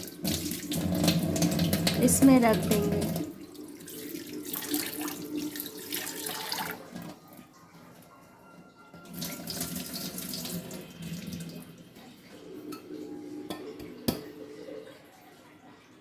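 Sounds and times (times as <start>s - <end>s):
tap water running into sink: 0.0s - 7.3s, 9.0s - 15.1s.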